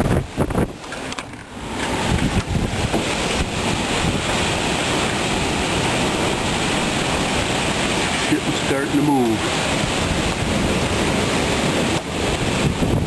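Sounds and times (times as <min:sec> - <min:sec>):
heavy rain and hail: 0:00.0 - 0:13.0
strong wind: 0:00.0 - 0:13.0.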